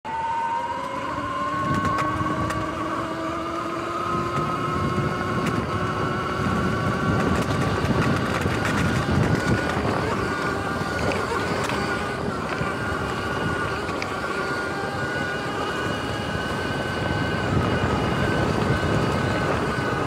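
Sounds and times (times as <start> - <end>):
electric dirt bike whine: 0.0 - 20.0.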